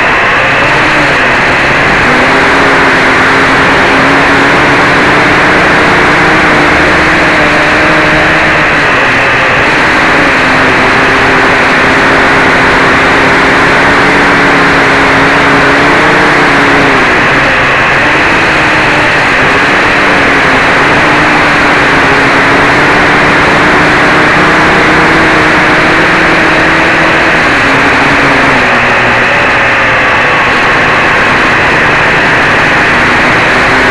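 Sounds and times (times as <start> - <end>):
drone motors buzzing: 0.0 - 33.9.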